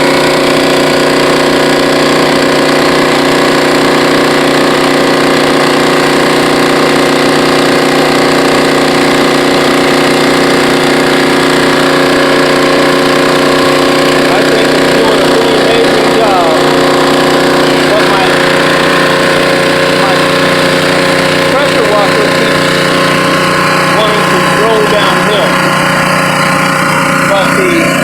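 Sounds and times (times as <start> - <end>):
pressure washer engine hum: 0.0 - 28.0
water spraying onto concrete: 0.0 - 28.0.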